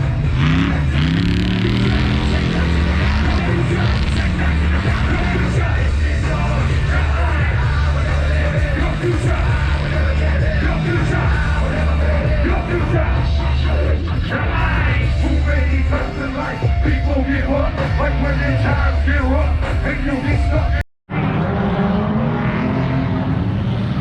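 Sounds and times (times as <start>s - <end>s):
hard rock music: 0.0s - 20.8s
shouted vocals: 0.6s - 20.8s.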